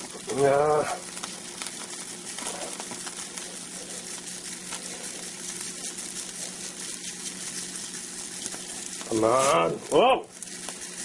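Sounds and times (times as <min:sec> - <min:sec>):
food sizzling on hot burner: 0:00.0 - 0:11.0.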